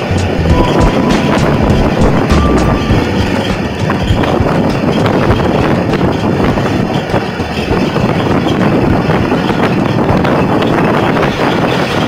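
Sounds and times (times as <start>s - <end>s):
passenger train running: 0.0s - 12.0s
wind rushing over microphone: 0.0s - 12.0s.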